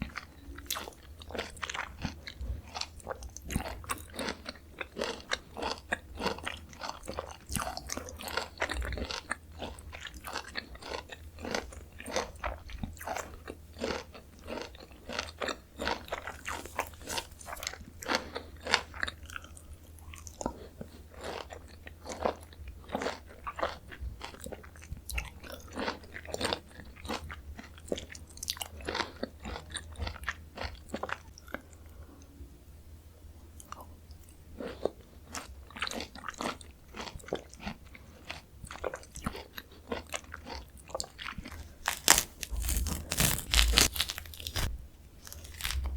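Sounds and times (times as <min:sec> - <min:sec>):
biting and chewing fruit: 0:00.0 - 0:31.9, 0:33.6 - 0:45.9
low steady hum: 0:00.0 - 0:45.9.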